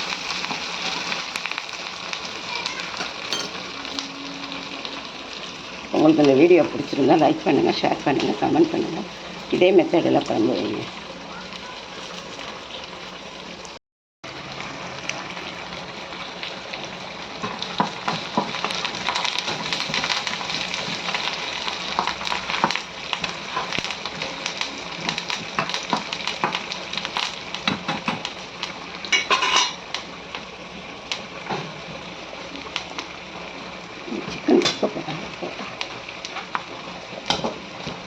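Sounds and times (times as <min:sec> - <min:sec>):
food sizzling in oil: 0:00.0 - 0:38.0.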